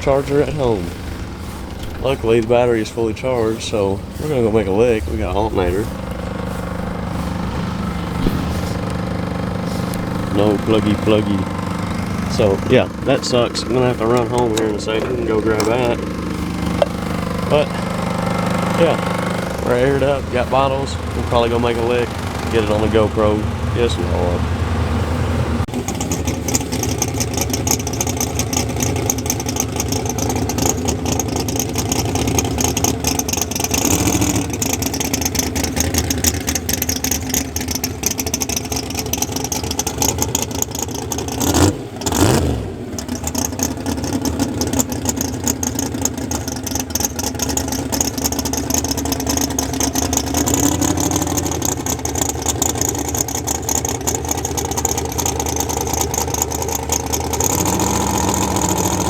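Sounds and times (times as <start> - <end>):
race engine running: 0.0 - 59.0.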